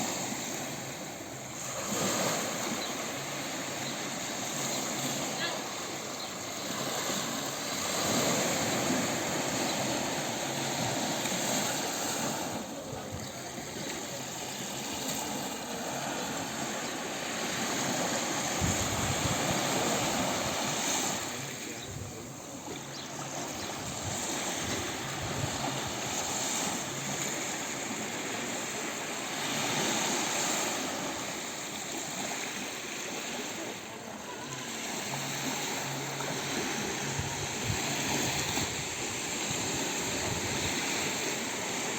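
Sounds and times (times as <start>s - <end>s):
sea waves washing onto beach: 0.0s - 41.9s.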